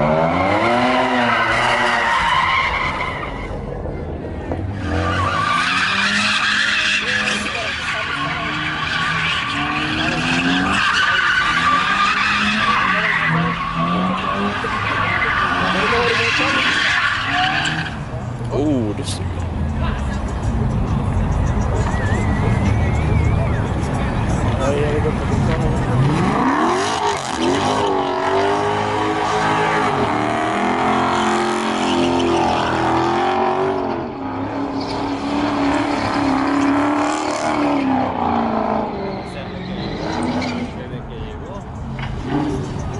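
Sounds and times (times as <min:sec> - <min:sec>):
car engine revving: 0:00.0 - 0:41.0, 0:41.6 - 0:42.9
tyres screeching: 0:04.7 - 0:18.2, 0:19.6 - 0:40.9.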